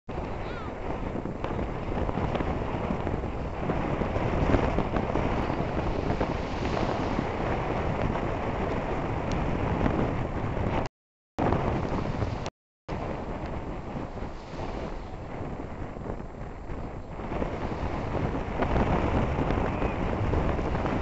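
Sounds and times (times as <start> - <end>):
wind buffeting microphone: 0.1 - 21.0.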